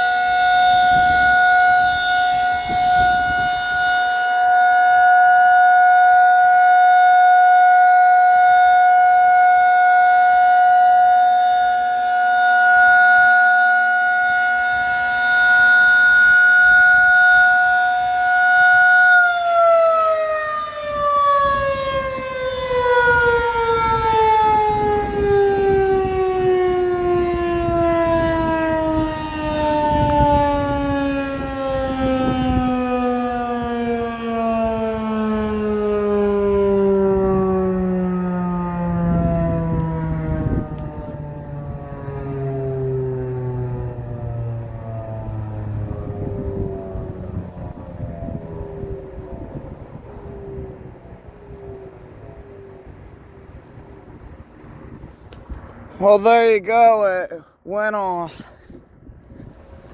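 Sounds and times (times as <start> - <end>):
wind rumble on microphone: 0.0 - 56.2, 58.3 - 59.9
warning siren winding down: 0.0 - 59.9.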